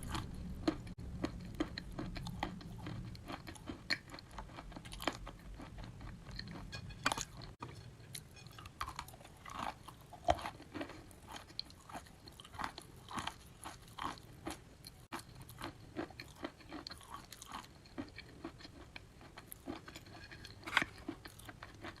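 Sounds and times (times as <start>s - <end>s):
person chewing wet chalk: 0.0s - 22.0s.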